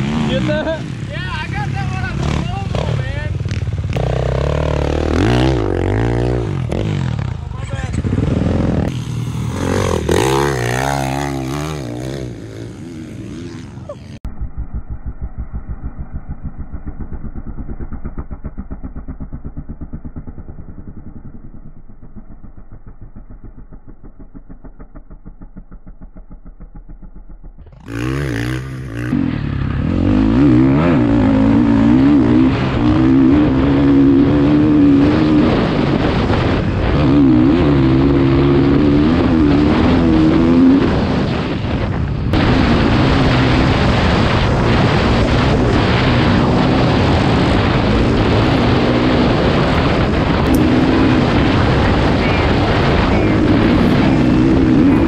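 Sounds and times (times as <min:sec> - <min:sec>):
dirt bike engine revving: 0:00.0 - 0:21.3, 0:27.6 - 0:55.0.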